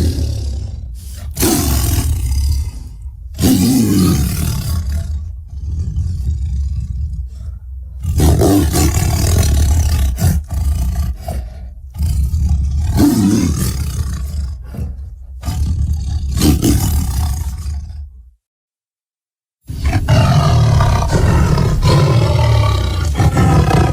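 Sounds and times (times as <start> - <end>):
deep rough dinosaur roars: 0.0 - 18.2, 19.7 - 23.9.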